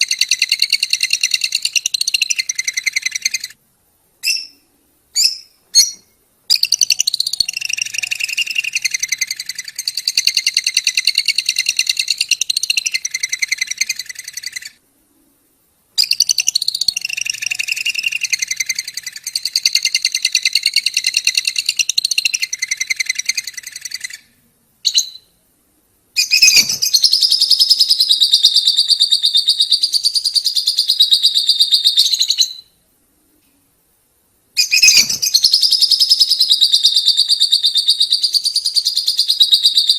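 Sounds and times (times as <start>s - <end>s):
lovebird chattering trill: 0.0s - 3.6s, 4.2s - 14.8s, 16.0s - 25.3s, 26.2s - 32.8s, 34.6s - 39.9s.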